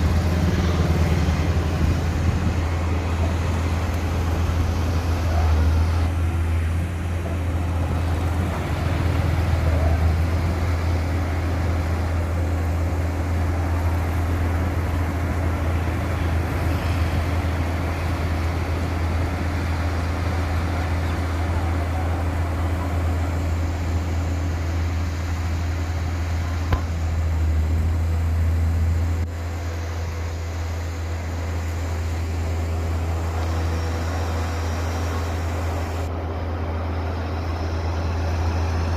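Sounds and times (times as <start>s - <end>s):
heavy diesel engine humming: 0.0s - 38.9s.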